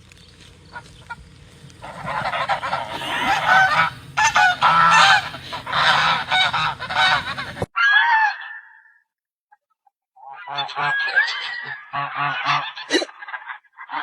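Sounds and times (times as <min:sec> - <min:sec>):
many birds calling: 0:00.0 - 0:08.9, 0:10.2 - 0:14.0.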